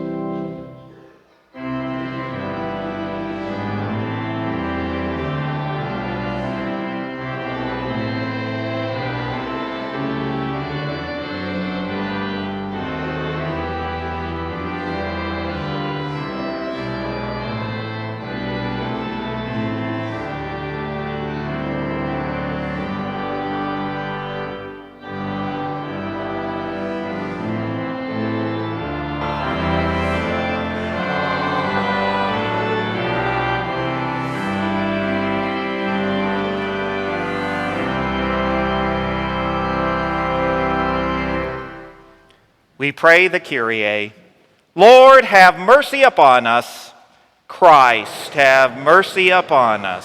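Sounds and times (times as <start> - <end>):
organ chords: 0.0 - 50.0.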